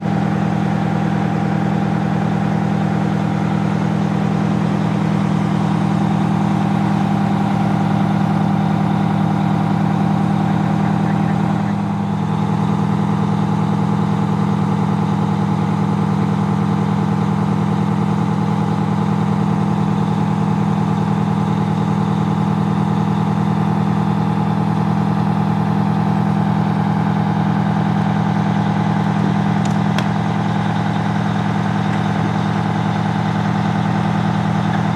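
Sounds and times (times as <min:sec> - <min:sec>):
fire engine idling: 0:00.0 - 0:34.9.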